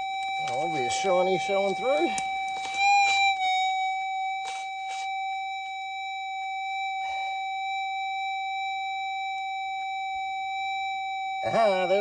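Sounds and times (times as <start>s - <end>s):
metal detector steady tone: 0.0s - 12.0s.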